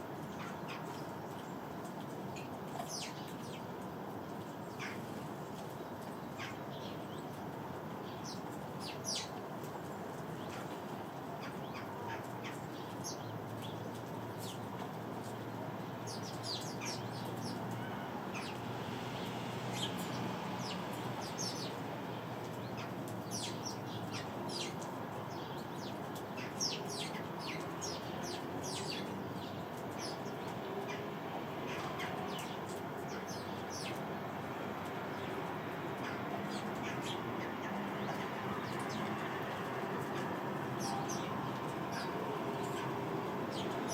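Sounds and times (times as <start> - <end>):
sparrows chirping: 2.4 - 3.8, 4.6 - 43.9.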